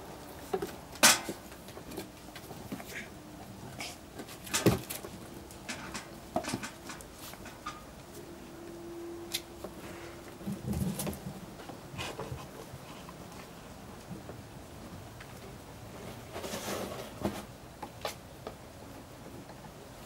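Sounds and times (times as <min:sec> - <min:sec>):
faint steady hum: 0:00.0 - 0:20.0
puppies scuffling and thudding: 0:00.1 - 0:08.2, 0:09.3 - 0:18.6.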